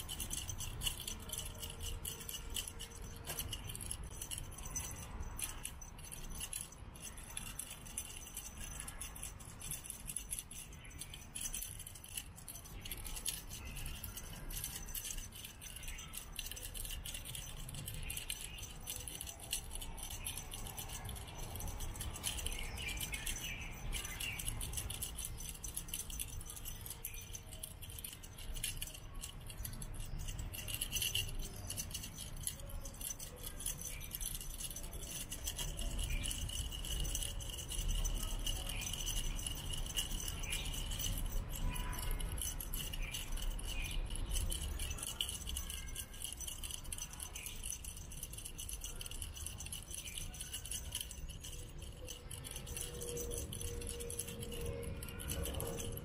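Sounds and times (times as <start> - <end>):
cat toy rattling and jingling: 0.0 - 56.0.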